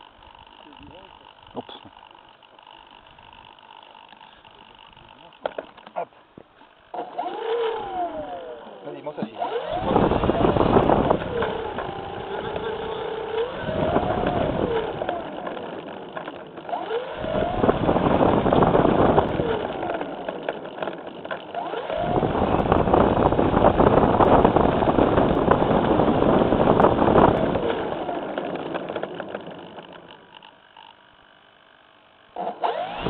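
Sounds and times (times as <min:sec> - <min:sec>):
model airplane motor whining: 0:00.0 - 0:33.0.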